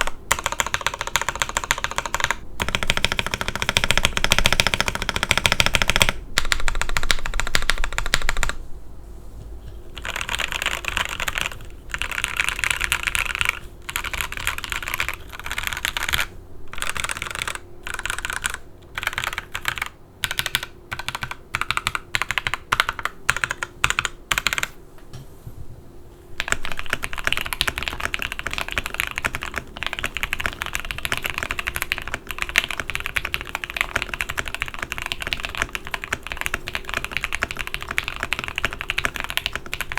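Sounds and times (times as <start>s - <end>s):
mechanical keyboard typing: 0.0s - 8.6s, 10.0s - 24.8s, 26.4s - 39.9s.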